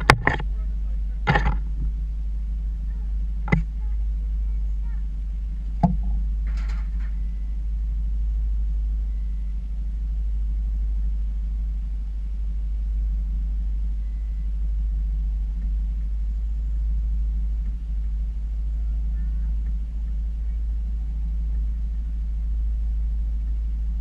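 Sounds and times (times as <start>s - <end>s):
outboard motor droning: 0.0s - 24.0s.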